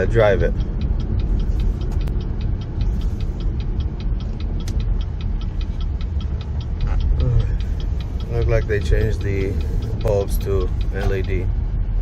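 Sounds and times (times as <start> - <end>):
engine and road rumble: 0.0 - 12.0
turn signal ticking: 0.0 - 12.0.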